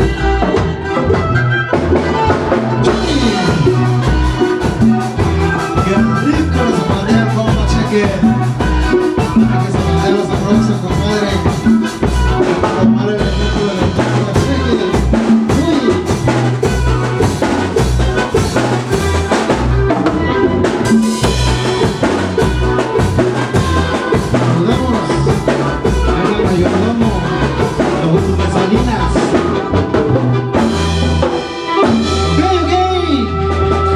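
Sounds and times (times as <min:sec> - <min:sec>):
band playing dance music: 0:00.0 - 0:33.9.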